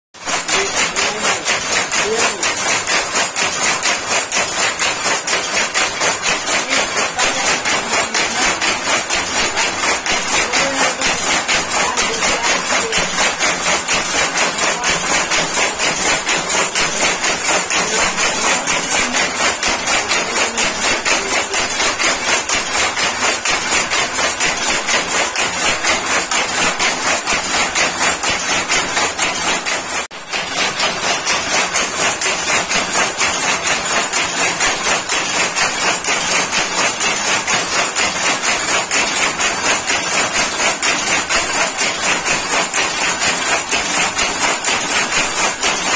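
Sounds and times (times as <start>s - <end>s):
power loom clacking: 0.2s - 45.9s.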